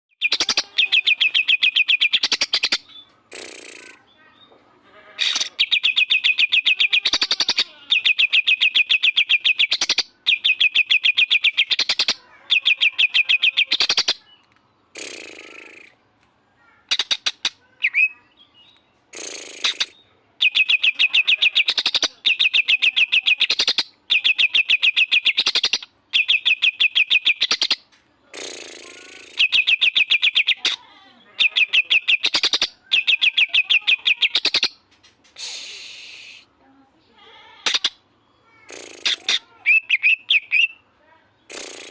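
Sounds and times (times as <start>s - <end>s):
bird singing rapid high notes: 0.1s - 4.5s, 5.2s - 16.0s, 16.8s - 30.8s, 31.4s - 36.5s, 37.6s - 41.9s
harsh raspy bird notes: 0.1s - 41.9s.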